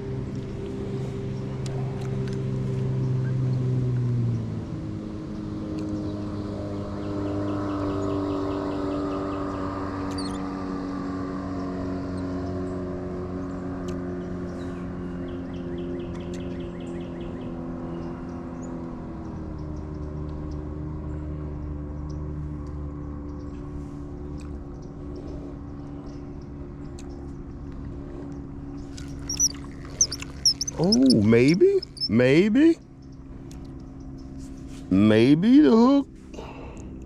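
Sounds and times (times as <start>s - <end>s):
boat motor humming: 0.0s - 37.0s.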